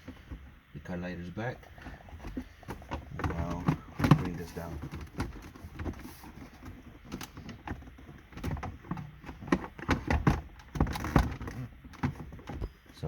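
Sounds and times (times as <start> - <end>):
plastic clicks and knocks: 2.2 - 12.8.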